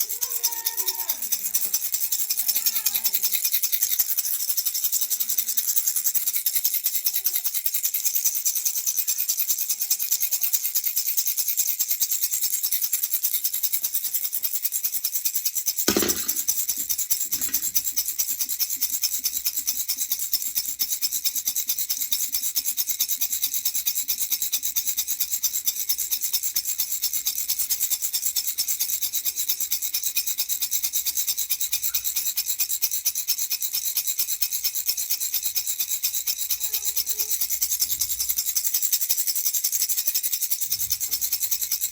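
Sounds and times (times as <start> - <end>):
baby rattle shaken fast: 0.0 - 41.9.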